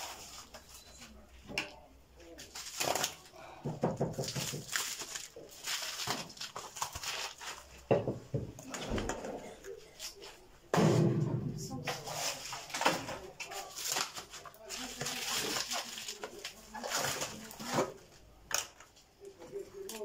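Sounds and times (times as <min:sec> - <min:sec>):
plastic rustling and crinkling: 0:00.0 - 0:08.0, 0:11.7 - 0:20.0.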